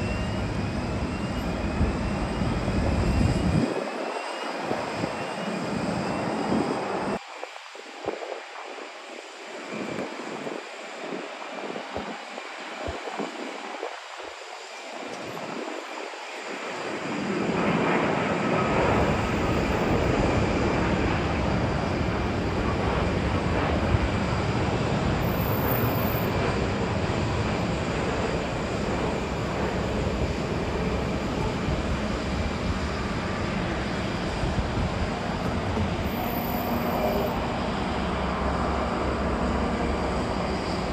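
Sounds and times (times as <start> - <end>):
jet airliner passing overhead: 0.0 - 40.9.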